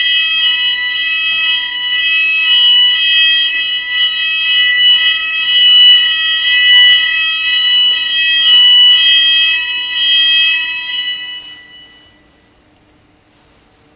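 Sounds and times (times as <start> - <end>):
high-pitched multi-tone fire alarm: 0.0 - 12.6.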